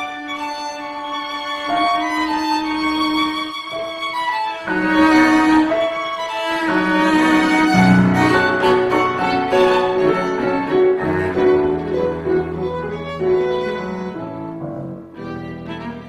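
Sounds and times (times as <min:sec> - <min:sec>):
piano playing: 0:00.0 - 0:16.0
violin and cello bowing: 0:00.0 - 0:16.0.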